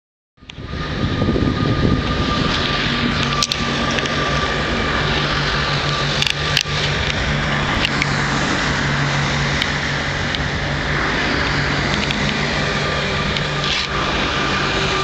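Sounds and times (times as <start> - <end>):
high electric whine: 0.4 - 15.0
train wheels rumbling: 0.6 - 15.0.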